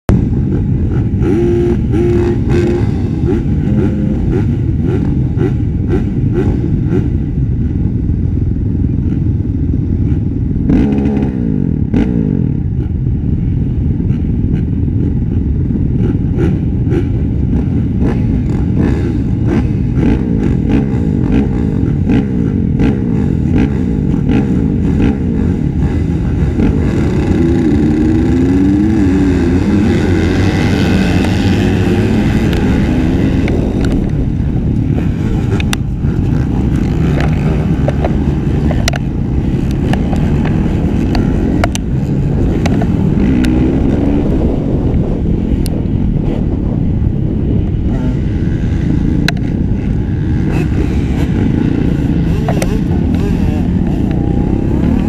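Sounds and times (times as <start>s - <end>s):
motocross bike engine revving: 0.2s - 7.4s, 9.1s - 12.9s, 14.1s - 45.5s, 47.5s - 55.0s.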